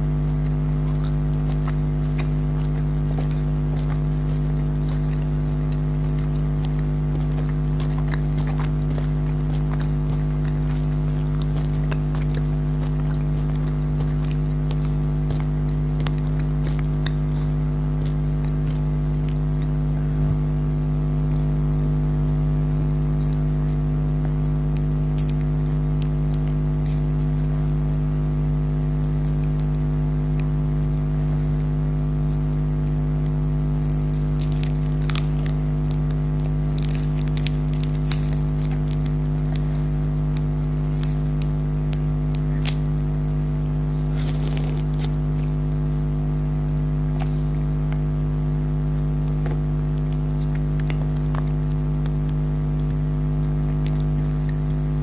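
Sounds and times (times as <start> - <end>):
chewing jelly candy: 0.0 - 55.0
steady low hum: 0.0 - 55.0.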